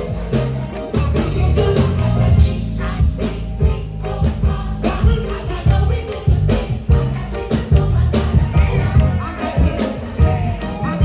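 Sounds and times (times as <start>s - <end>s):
upbeat gospel music with singing: 0.0s - 11.0s.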